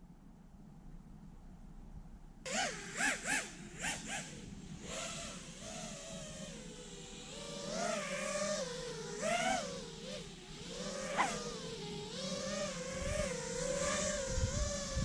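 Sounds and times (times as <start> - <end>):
drone propellers whining: 2.5 - 15.0.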